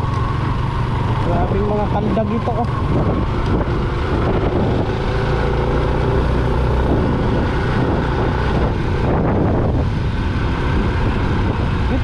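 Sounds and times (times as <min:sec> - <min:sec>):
motorcycle engine running: 0:00.0 - 0:12.0
road noise: 0:00.0 - 0:12.0
wind rush: 0:00.0 - 0:12.0.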